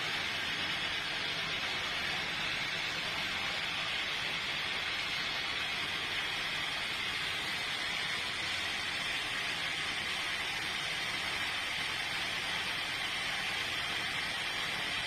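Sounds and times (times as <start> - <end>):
sawmill saw running: 0.0 - 15.0.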